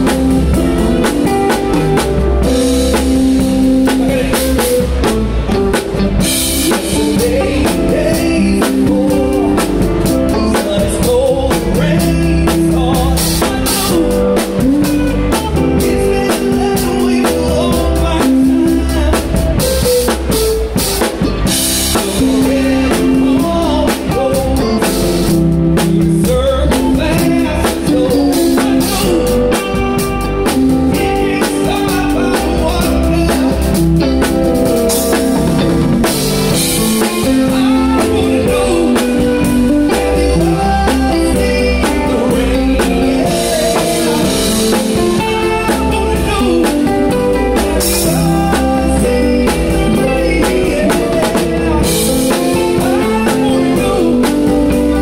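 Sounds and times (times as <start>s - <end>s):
drum kit played with sticks: 0.0s - 55.0s
rock band playing: 0.0s - 55.0s.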